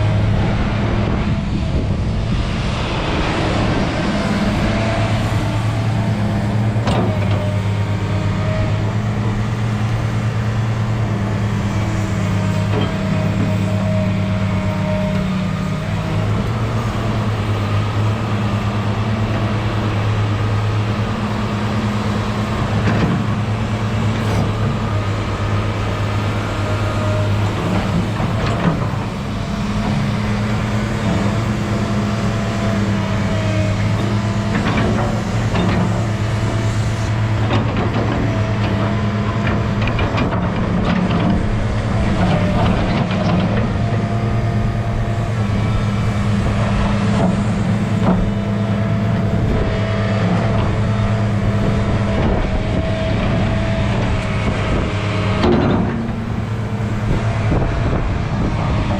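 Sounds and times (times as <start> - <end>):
excavator diesel engine running: 0.0 - 58.9
hydraulics whining: 0.0 - 58.9.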